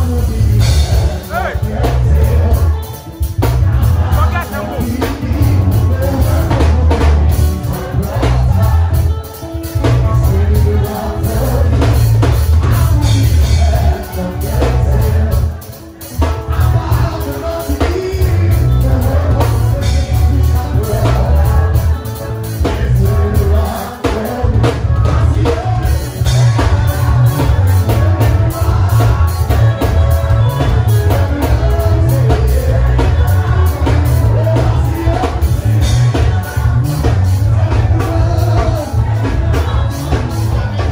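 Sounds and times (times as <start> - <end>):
drum kit: 0.0 - 40.9
heavy bass: 0.0 - 40.9
person singing: 0.0 - 40.9.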